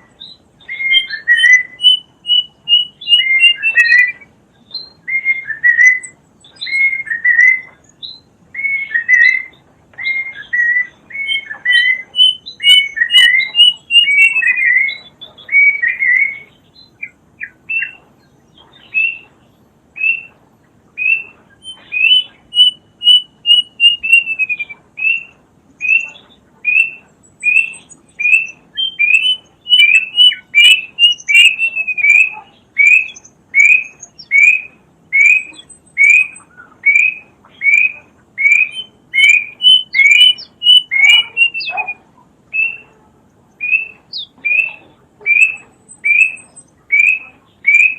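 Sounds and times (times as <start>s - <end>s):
cuckoo calling: 0.0s - 47.9s.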